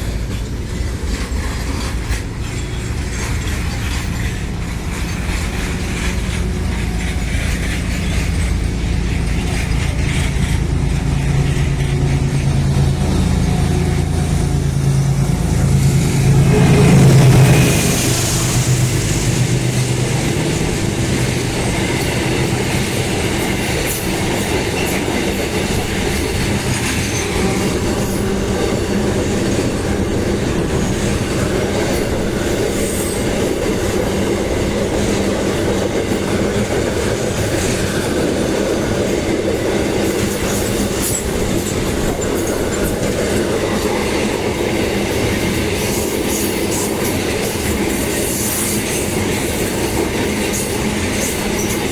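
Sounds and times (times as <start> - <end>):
freight train wagons rolling past: 0.0 - 51.9
wheels clacking over rail joints: 0.0 - 51.9.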